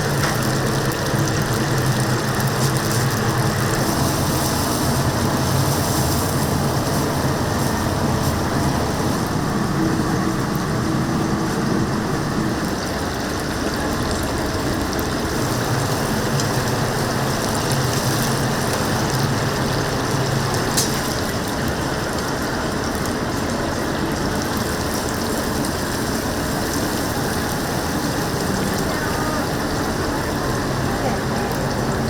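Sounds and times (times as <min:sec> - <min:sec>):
oil sizzling in a fryer: 0:00.0 - 0:32.0.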